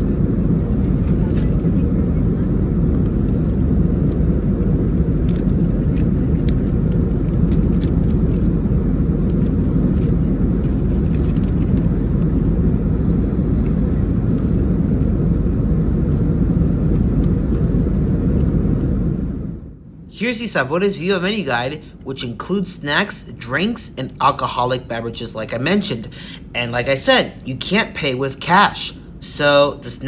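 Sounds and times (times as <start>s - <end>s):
airplane cabin engine drone: 0.0s - 30.0s.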